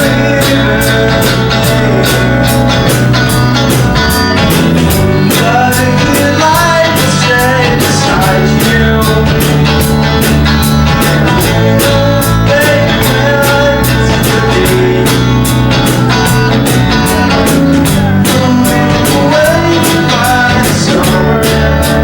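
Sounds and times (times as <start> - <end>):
gliding lead guitar melody: 0.0 - 22.0
rock band playing: 0.0 - 22.0.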